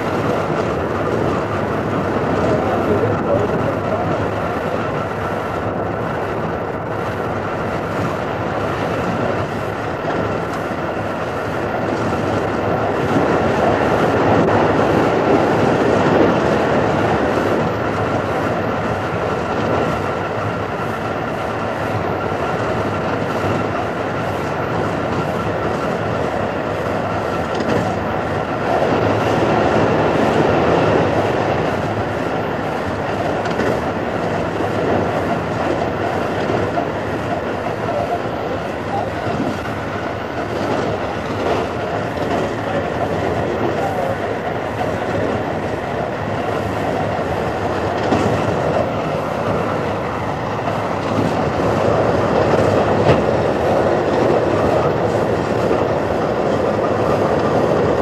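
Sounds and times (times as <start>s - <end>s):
train rumbling along track: 0.0s - 58.0s.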